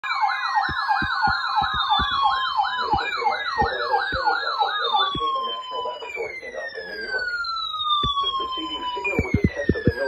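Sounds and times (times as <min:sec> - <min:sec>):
electronic siren yelping: 0:00.0 - 0:10.0
falling siren tones: 0:00.0 - 0:10.0.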